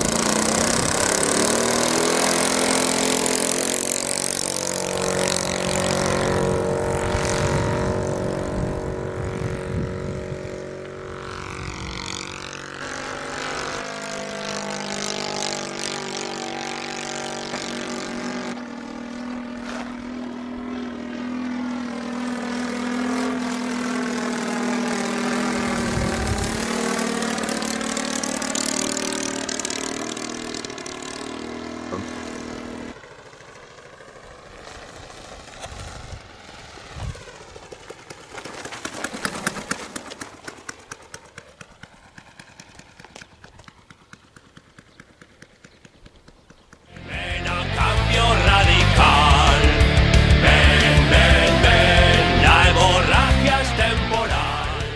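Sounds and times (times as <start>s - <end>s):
model aeroplane engine and propeller: 0.0s - 47.3s.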